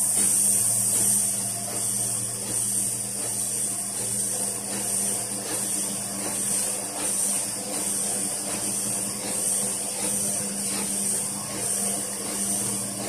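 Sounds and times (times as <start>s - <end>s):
printing press running: 0.0s - 13.0s.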